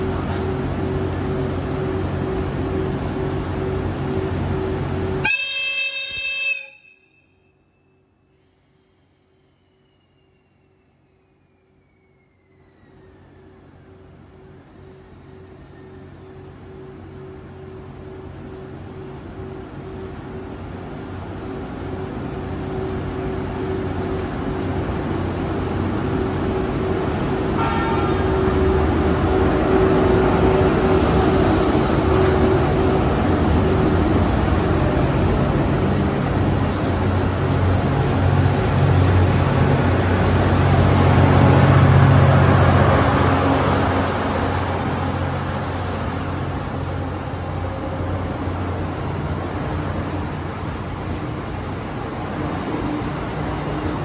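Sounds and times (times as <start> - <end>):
train rolling past: 0.0 - 54.0.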